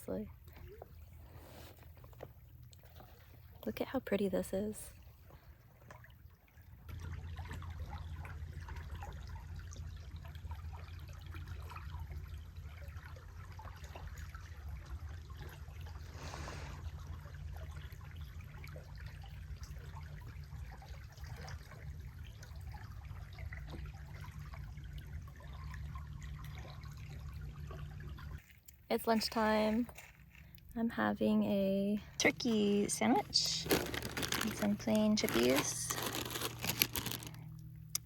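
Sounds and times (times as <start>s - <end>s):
creek water trickling: 0.0s - 38.0s.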